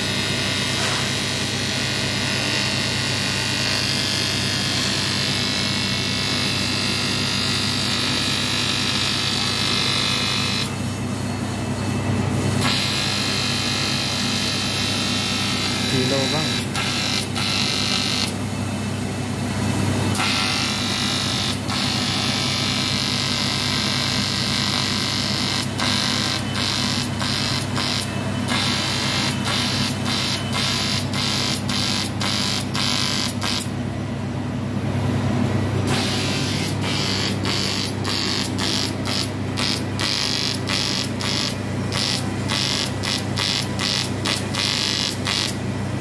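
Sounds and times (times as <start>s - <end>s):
welding arc buzzing: 0.0s - 11.2s, 12.3s - 18.6s, 20.0s - 33.8s, 35.8s - 46.0s.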